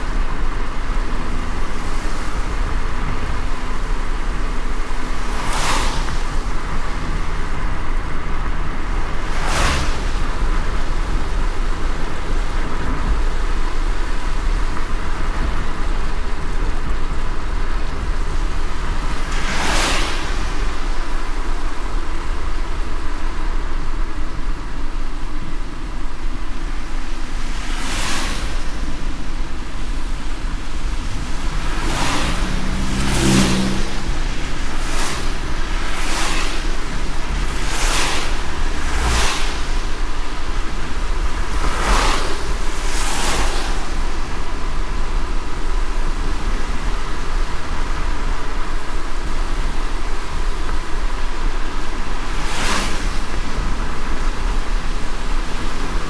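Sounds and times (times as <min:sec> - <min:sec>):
low engine hum: 0:00.0 - 0:56.0
low road rumble: 0:00.0 - 0:56.0
rain hiss: 0:00.0 - 0:56.0
wet tire swishes: 0:00.0 - 0:56.0.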